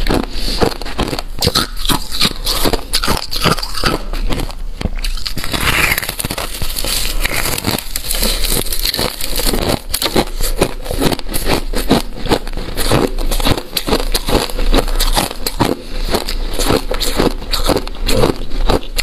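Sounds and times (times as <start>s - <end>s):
ice being chewed crunching: 0.0s - 19.0s.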